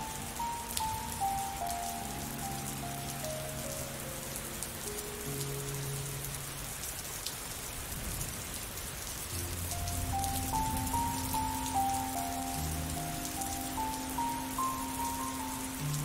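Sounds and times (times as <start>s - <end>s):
soft music of slow held notes: 0.0s - 7.5s, 9.0s - 16.0s
rain falling on leaves: 0.0s - 16.0s.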